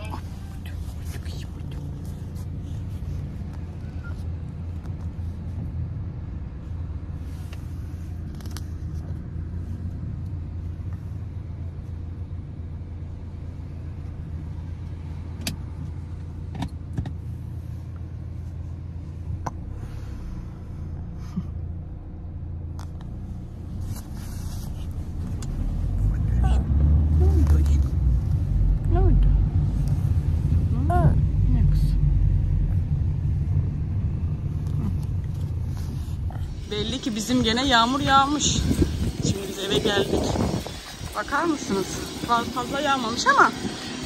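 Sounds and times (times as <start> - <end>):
car engine and road noise: 0.0 - 44.0.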